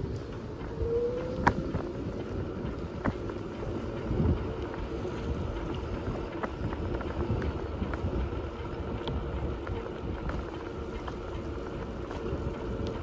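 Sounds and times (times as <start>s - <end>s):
bicycle rolling hum: 0.0s - 13.0s
light ticks: 0.0s - 13.0s
wind buffeting microphone: 0.0s - 13.0s.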